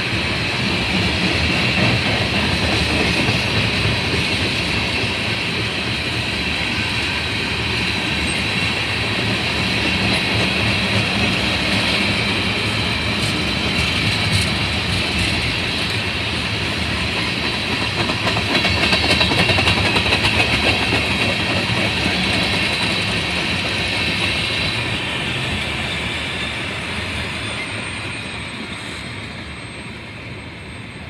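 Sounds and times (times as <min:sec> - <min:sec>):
train cars rumbling on rails: 0:00.0 - 0:31.0.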